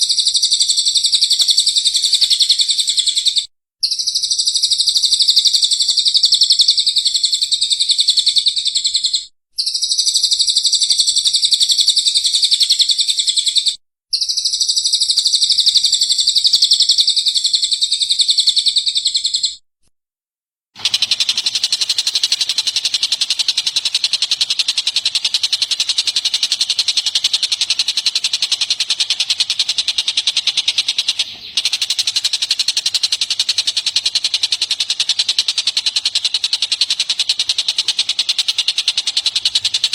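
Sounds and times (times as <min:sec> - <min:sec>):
recorded songbird chirping: 0:00.0 - 0:19.6, 0:20.8 - 0:39.9
steady high bird chatter: 0:00.0 - 0:19.6, 0:20.8 - 0:39.9.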